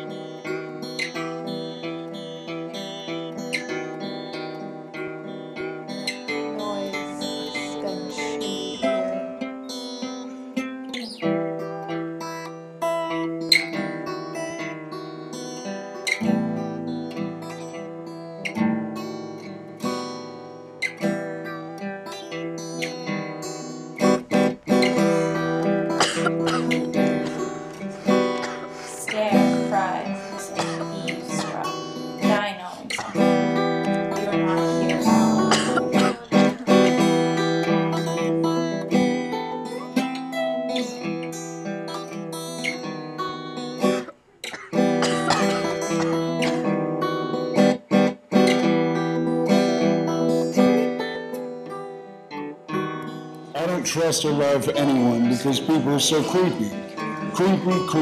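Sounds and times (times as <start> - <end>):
guitar chords strummed: 0.0 - 58.0.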